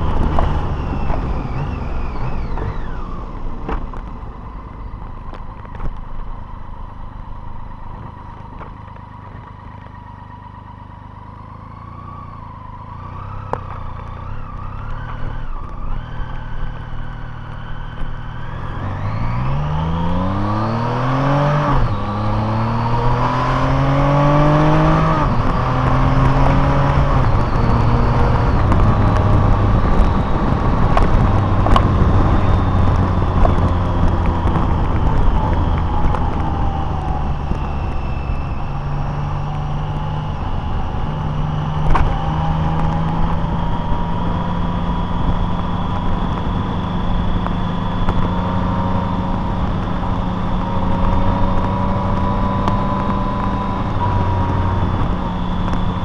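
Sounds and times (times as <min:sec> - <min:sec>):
car engine accelerating: 0:00.0 - 0:56.0
tyre and road noise: 0:00.0 - 0:56.0.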